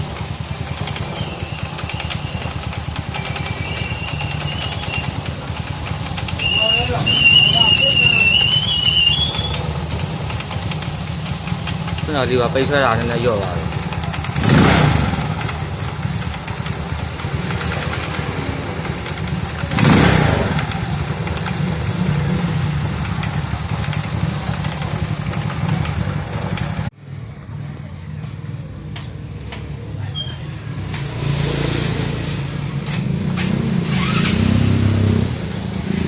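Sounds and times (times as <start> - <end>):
motorcycle engine running: 0.0 - 27.0, 30.7 - 36.0.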